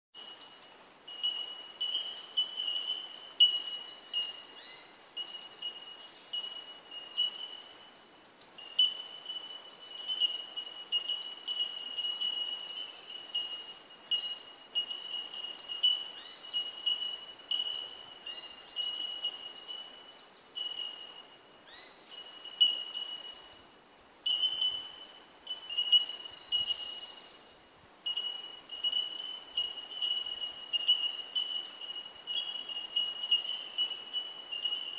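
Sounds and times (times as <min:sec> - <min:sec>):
birds giving ringing tink notes: 0:00.2 - 0:23.6, 0:24.2 - 0:34.9.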